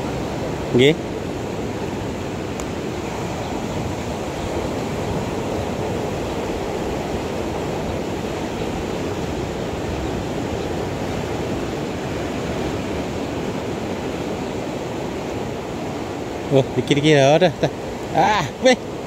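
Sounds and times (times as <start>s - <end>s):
wind on microphone: 0.0s - 16.5s
surf washing over rocky shore: 0.0s - 19.0s.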